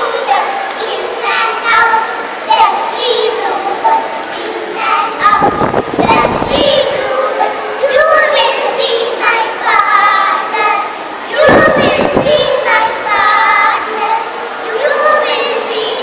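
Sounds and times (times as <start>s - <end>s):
loud burst of noise: 0.0s - 15.5s
girls singing into microphones: 0.0s - 16.0s.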